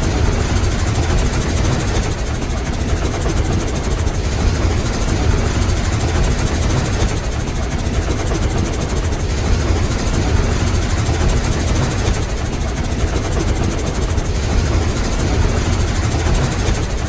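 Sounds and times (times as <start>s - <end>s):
steam locomotive chugging: 0.0s - 17.0s.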